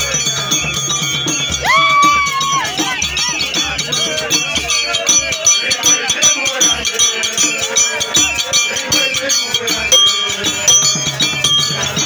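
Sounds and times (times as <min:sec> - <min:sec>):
crowd singing and chanting: 0:00.0 - 0:12.0
jangling metal percussion: 0:00.0 - 0:12.0.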